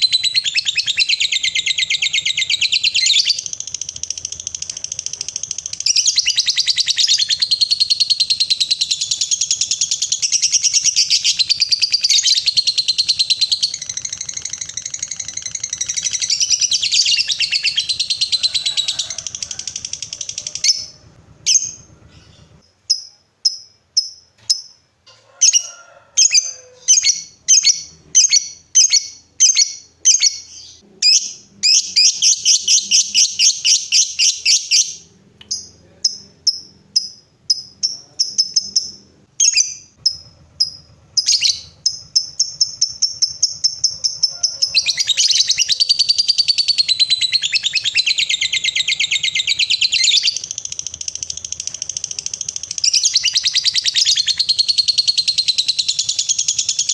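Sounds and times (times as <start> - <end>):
lovebird trilling: 0.0 - 24.7, 25.4 - 56.9.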